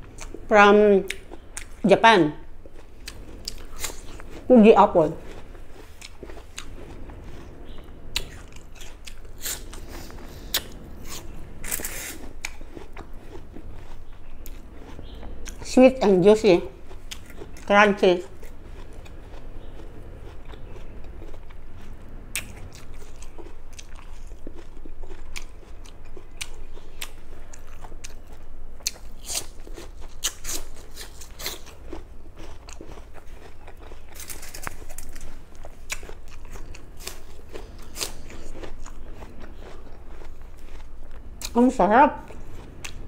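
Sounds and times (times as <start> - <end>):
apple crunching: 2.6 - 43.0.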